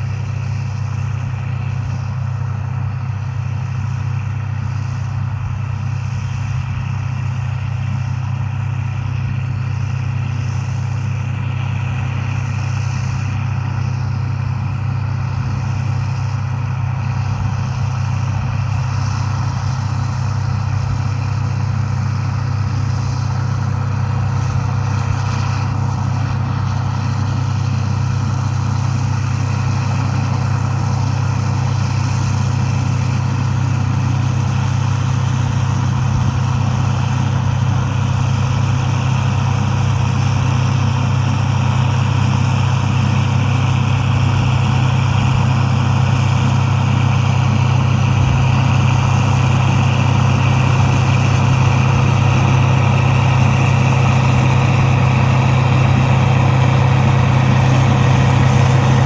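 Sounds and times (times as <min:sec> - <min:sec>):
farm machinery engine drone: 0:00.0 - 0:59.0.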